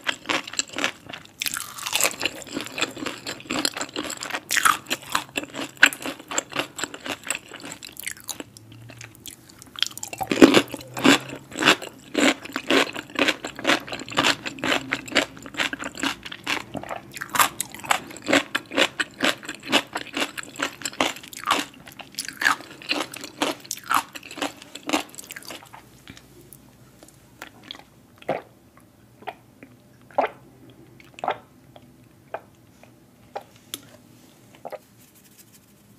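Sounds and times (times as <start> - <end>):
chewing crunchy food: 0.0 - 34.8.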